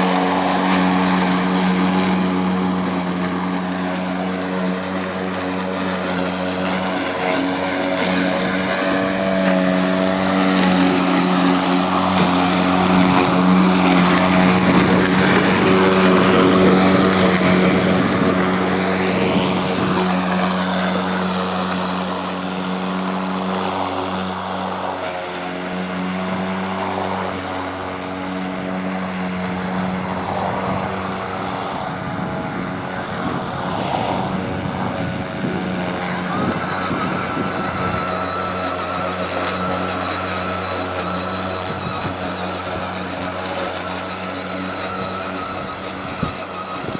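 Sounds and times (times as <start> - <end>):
electric lawn mower humming: 0.0 - 46.9
mower cutting grass: 0.0 - 46.9.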